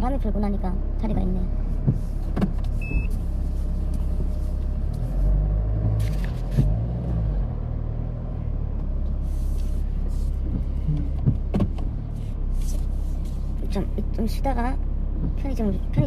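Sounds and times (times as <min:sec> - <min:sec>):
van engine rumbling: 0:00.0 - 0:16.0.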